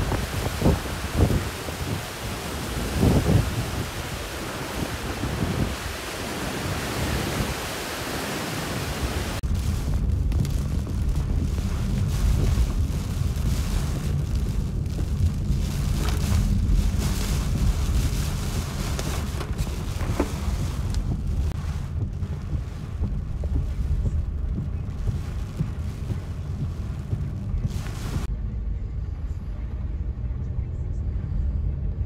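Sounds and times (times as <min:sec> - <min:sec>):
wind buffeting microphone: 0:00.0 - 0:28.3.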